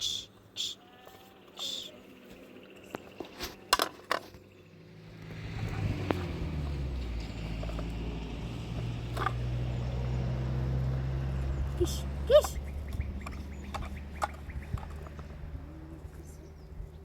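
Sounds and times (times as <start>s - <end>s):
motor engine humming: 1.4s - 17.0s.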